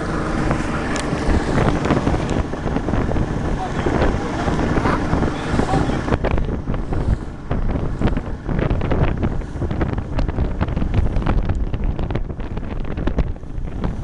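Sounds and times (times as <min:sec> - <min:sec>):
hull rushing through choppy water: 0:00.0 - 0:14.0
wind buffeting microphone: 0:00.0 - 0:14.0.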